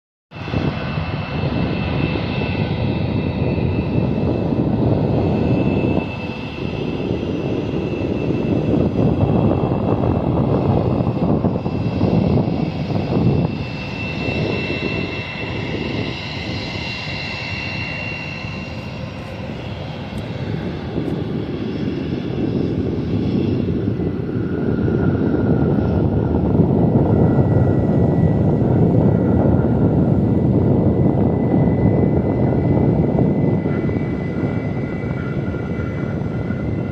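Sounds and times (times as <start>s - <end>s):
jet engines roaring: 0.4s - 36.9s.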